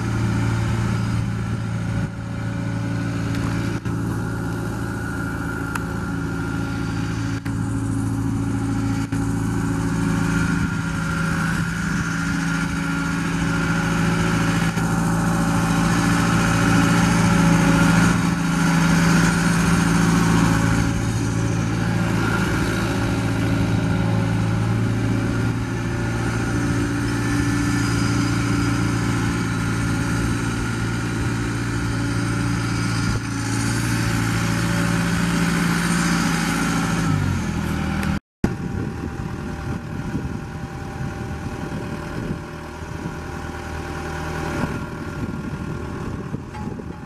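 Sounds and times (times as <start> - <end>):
rough engine running noise: 0.0 - 47.0
tractor diesel engine idling: 0.0 - 47.0.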